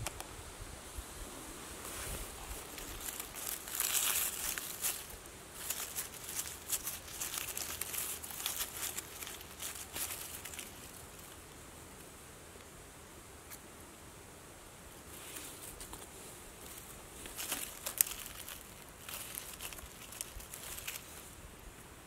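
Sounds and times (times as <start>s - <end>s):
forest litter rustling and crackling: 1.2s - 12.2s, 14.9s - 22.0s.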